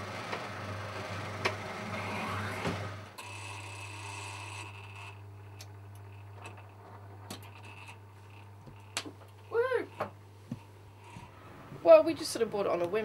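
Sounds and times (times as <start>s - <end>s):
steady electrical hum: 1.8s - 13.0s.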